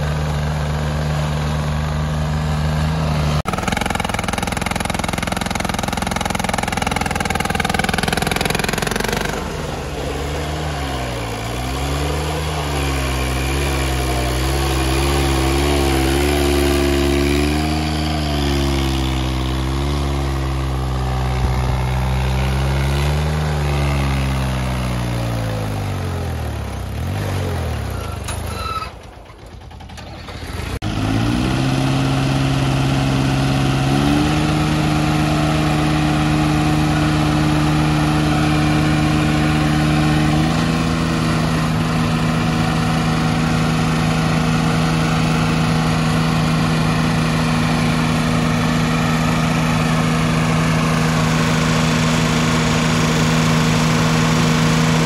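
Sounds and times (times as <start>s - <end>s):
diesel tractor engines revving: 0.0s - 55.0s.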